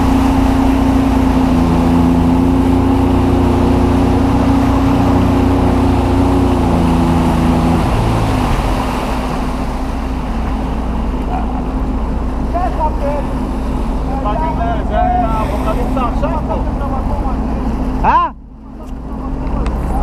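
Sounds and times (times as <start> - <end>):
watercraft engine running: 0.0 - 20.0.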